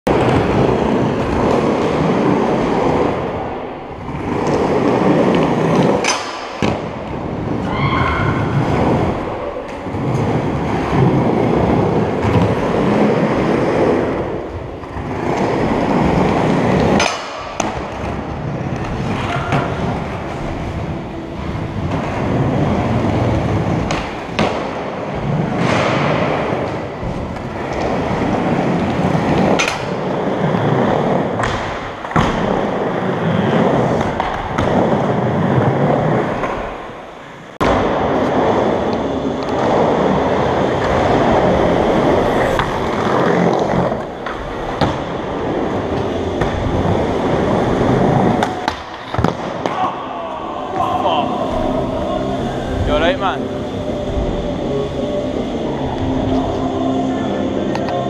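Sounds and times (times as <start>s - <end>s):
skateboard wheels rolling on concrete: 0.1s - 58.0s.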